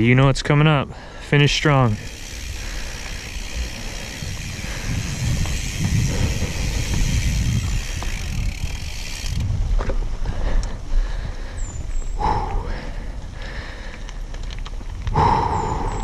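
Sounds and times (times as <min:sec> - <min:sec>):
bike rumbling and rattling on dirt: 0:00.0 - 0:16.0.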